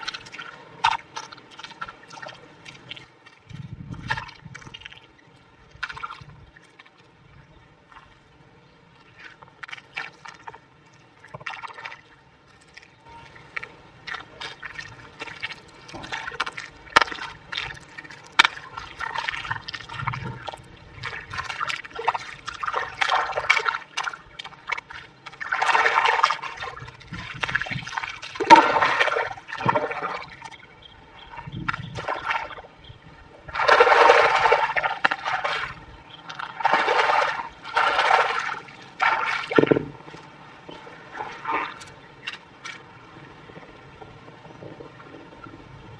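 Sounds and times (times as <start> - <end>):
mud squelching and splashing: 0.0 - 5.1, 5.7 - 7.0, 9.0 - 32.7, 33.4 - 42.9.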